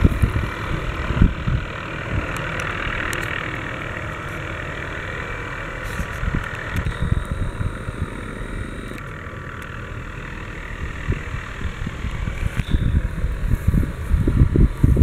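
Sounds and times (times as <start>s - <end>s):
helicopter hovering: 0.0s - 15.0s
low rumble: 0.0s - 15.0s.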